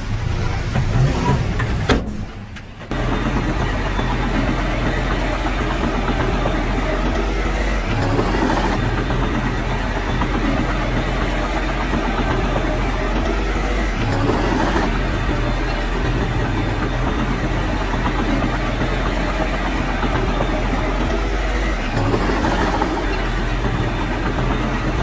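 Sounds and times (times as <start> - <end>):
diesel machinery engine running: 0.0 - 25.0.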